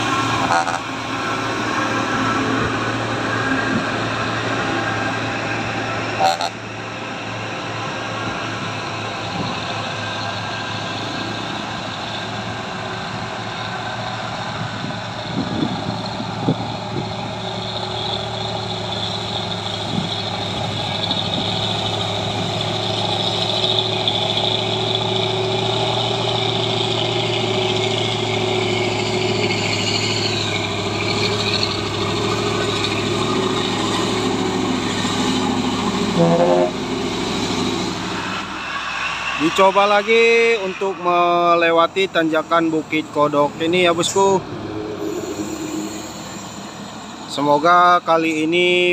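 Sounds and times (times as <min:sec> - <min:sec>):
truck diesel engine labouring: 0:00.0 - 0:48.9.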